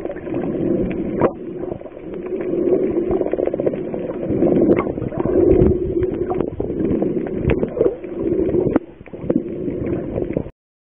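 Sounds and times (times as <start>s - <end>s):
underwater hum: 0.0s - 10.5s.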